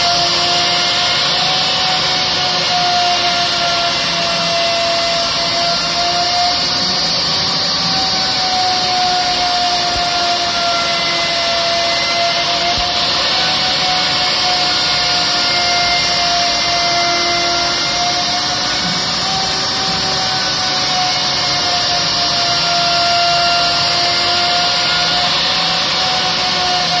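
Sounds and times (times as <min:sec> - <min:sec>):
cutter milling hiss: 0:00.0 - 0:27.0
router spindle whine: 0:00.0 - 0:27.0.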